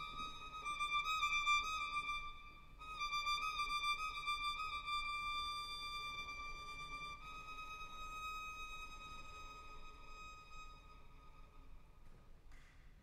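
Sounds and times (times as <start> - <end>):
solo violin long bowed note: 0.0 - 12.0.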